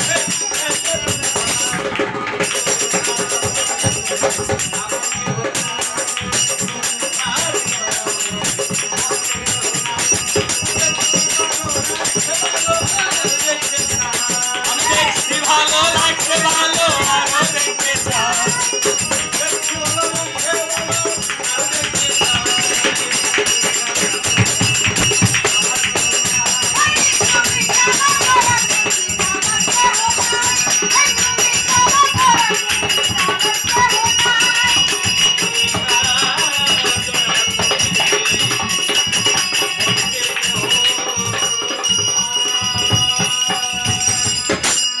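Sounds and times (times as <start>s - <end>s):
jingling hand percussion: 0.0s - 45.0s
person singing folk song: 0.0s - 45.0s.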